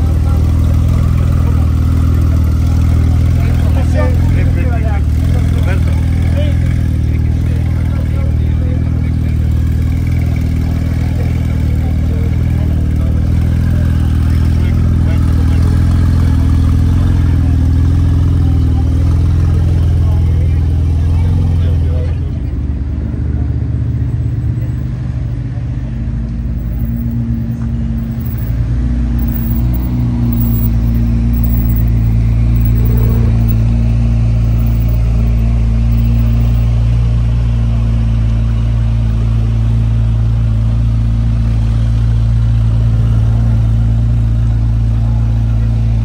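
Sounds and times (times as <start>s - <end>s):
car engine rumbling: 0.0s - 46.0s.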